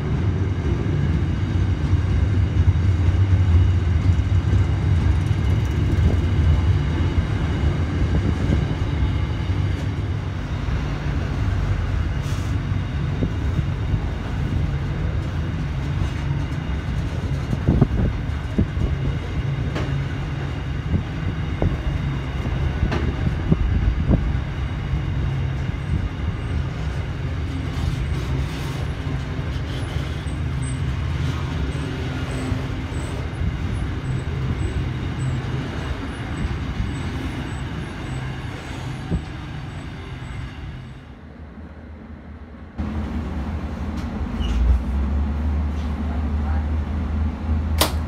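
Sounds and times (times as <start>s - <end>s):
freight train rumbling: 0.0s - 48.0s.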